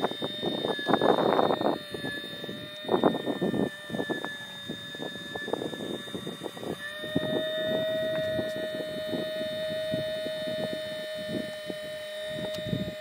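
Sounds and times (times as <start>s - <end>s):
electric water pump whining: 0.0s - 13.0s.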